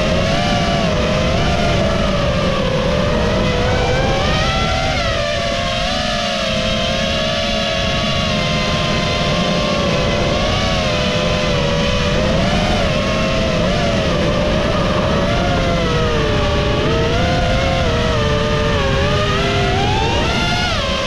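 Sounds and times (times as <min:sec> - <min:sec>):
drone propellers whining: 0:00.0 - 0:21.0
wind rumble: 0:00.0 - 0:21.0.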